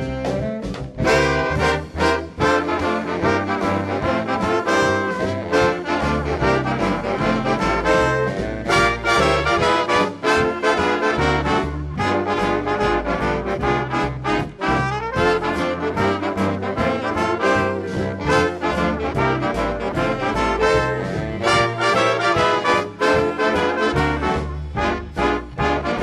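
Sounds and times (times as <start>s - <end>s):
big band swing music: 0.0s - 26.0s.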